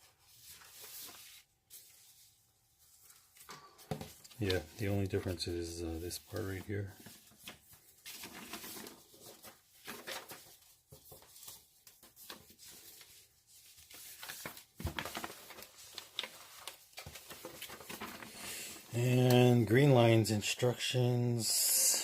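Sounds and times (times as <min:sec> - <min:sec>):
paper rustling: 0:00.0 - 0:20.2.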